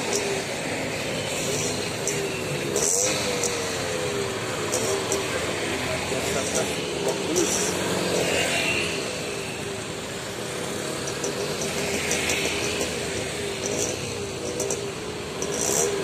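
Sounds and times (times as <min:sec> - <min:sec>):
motorcycles driving past: 0:00.0 - 0:16.0.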